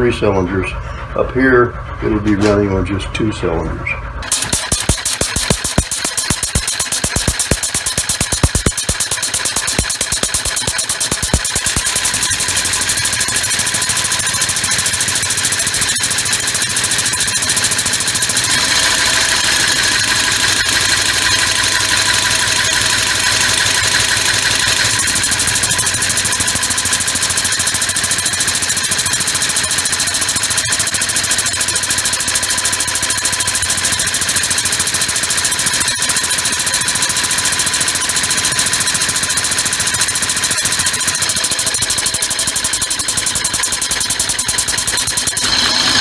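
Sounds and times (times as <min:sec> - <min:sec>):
compressed-air engine running fast: 0:04.2 - 0:42.4.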